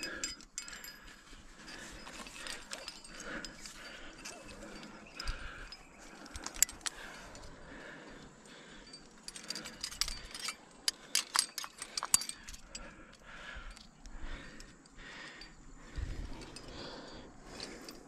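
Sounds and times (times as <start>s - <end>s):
metal climbing gear clinking: 0.0s - 18.0s
soft breathing: 0.0s - 18.0s.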